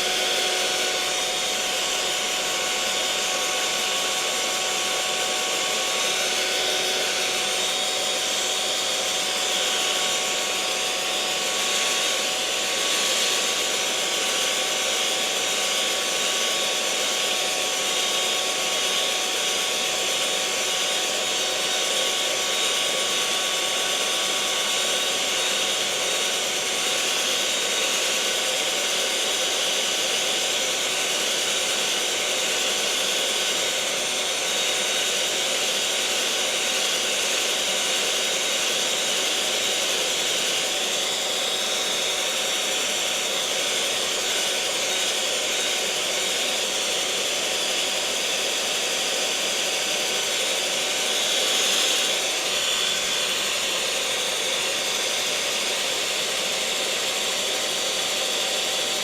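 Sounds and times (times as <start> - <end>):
electric mixer motor whirring: 0.0 - 59.0.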